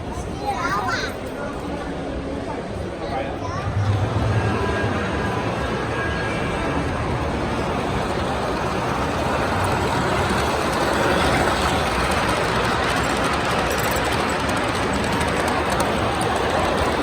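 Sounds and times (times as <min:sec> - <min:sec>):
train rushing rumble: 0:01.9 - 0:17.0.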